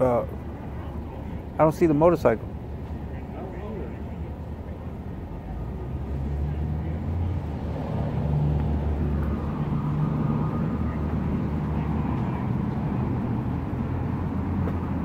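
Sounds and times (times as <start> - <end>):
street traffic noise: 0.0 - 15.0
vehicle engine idling: 0.0 - 15.0.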